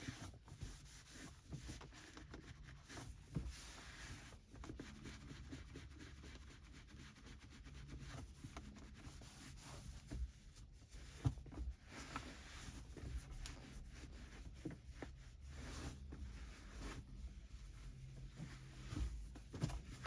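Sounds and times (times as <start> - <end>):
cloth wiping car interior: 0.0 - 20.0.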